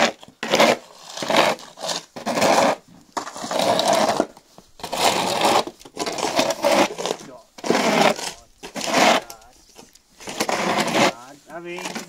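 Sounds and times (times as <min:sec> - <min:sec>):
snow shovel scraping on ice: 0:00.0 - 0:12.0.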